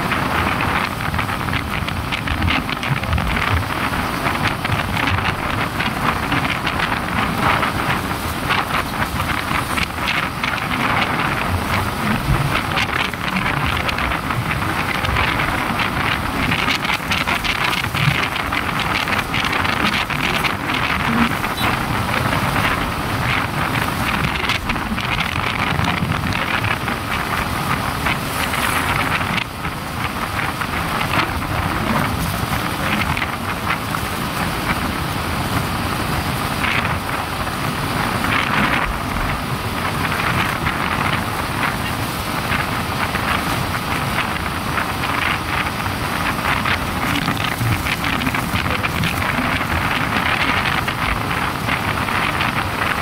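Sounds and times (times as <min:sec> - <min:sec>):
motorcycle road noise: 0:00.0 - 0:53.0
wind buffeting microphone: 0:00.0 - 0:53.0.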